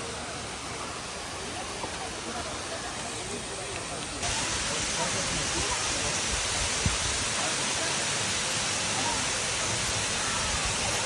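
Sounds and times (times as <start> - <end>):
rush of falling water: 0.0 - 11.0.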